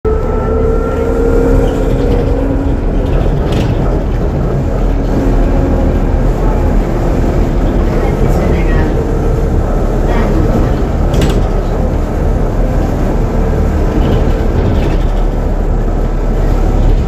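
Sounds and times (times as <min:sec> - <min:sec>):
bus engine drone with whine: 0:00.0 - 0:17.0.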